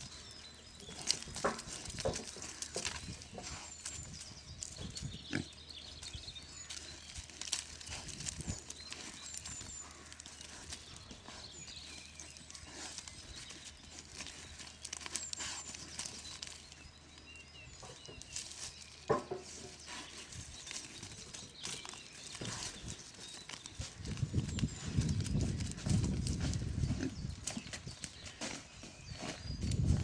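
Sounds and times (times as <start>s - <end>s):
hoof steps: 0.0s - 30.0s
pigs rustling and rooting: 0.0s - 30.0s.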